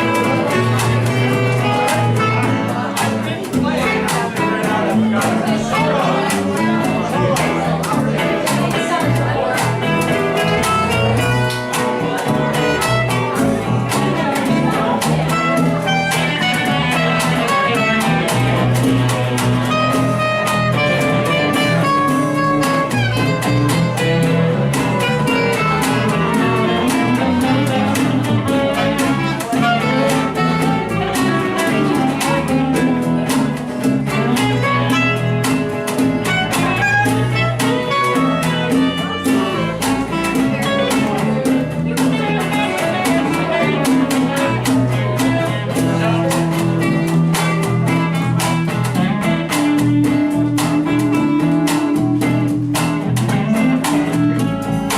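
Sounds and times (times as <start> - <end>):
band playing music: 0.0 - 54.9.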